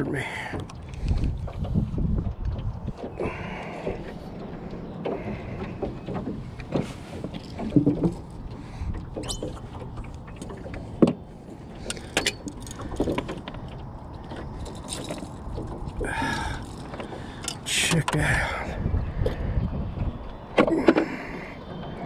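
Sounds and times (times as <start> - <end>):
knocks and scrapes in boat: 0.0 - 18.4.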